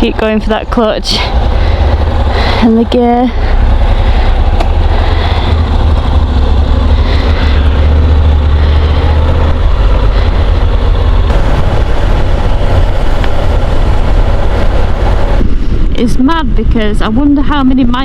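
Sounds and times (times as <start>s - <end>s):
motorcycle engine and road noise: 0.0s - 18.0s
wind rumble on microphone: 0.0s - 18.0s.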